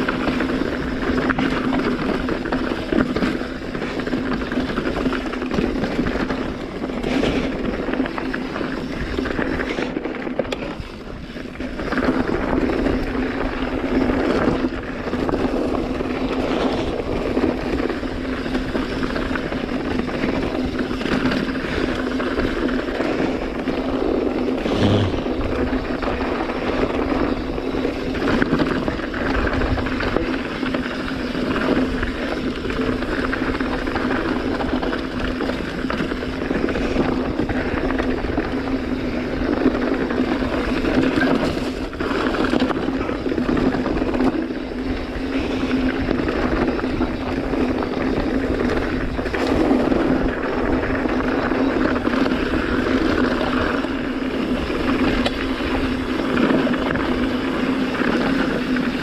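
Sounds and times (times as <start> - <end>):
bike rattling over gravel: 0.0 - 59.0.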